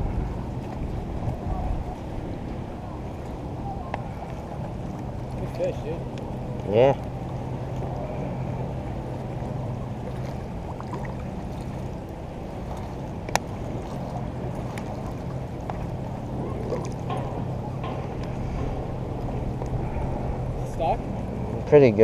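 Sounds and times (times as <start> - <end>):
steady low hum: 0.0 - 22.0
water sloshing and lapping: 0.0 - 22.0.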